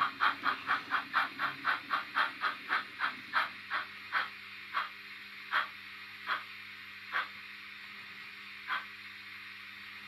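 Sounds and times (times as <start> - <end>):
model steam locomotive chuffing: 0.0 - 7.5, 8.5 - 10.0.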